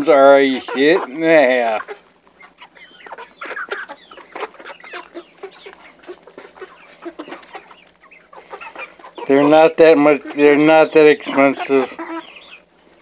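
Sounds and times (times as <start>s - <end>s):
beaks pecking: 0.0s - 13.0s
chickens clucking and chirping: 0.0s - 13.0s.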